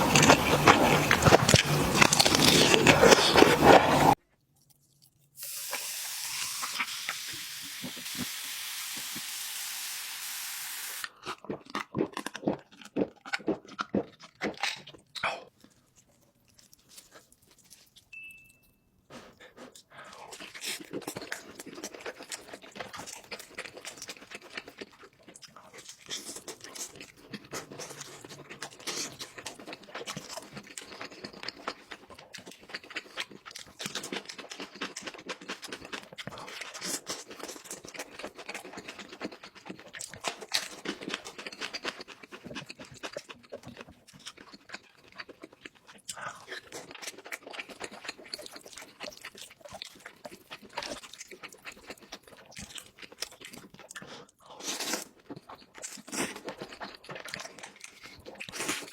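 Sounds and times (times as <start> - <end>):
wet mouth clicks and crunches: 0.0 - 5.2, 11.0 - 17.9, 20.3 - 58.9
person chewing and smacking food: 0.0 - 5.3, 11.0 - 18.1, 19.1 - 58.9.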